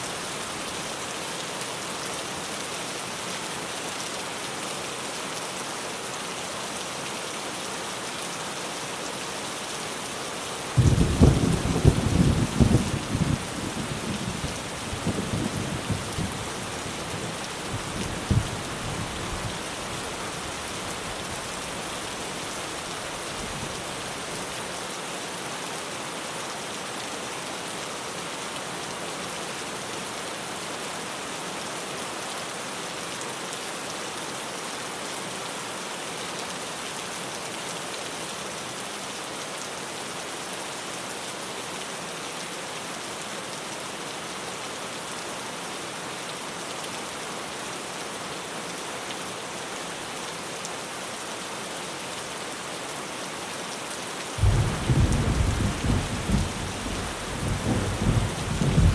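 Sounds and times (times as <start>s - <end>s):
rain on a tin roof: 0.0s - 58.9s.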